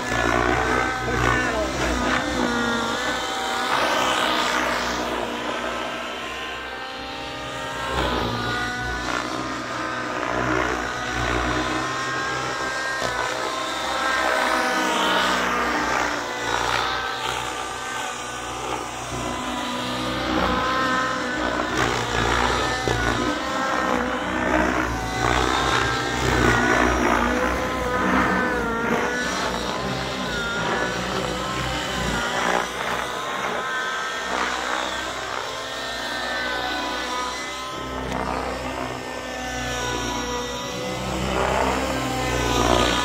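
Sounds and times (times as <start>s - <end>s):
rc helicopter engines and rotors: 0.0s - 43.0s.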